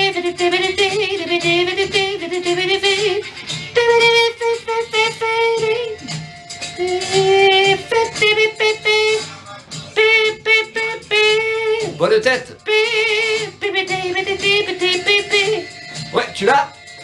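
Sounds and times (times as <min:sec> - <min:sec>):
man vocally imitating saxophone: 0:00.0 - 0:06.1, 0:06.8 - 0:09.3, 0:09.9 - 0:16.8
soft low beat: 0:00.0 - 0:17.0.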